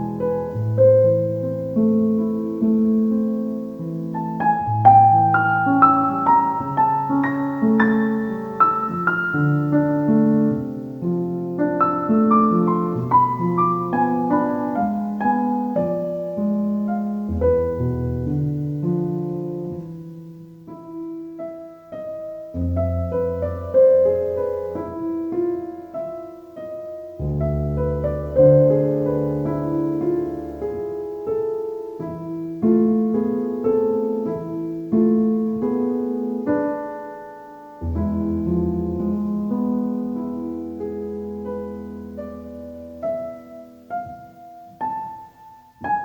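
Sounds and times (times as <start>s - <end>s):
calm solo piano: 0.0s - 46.0s.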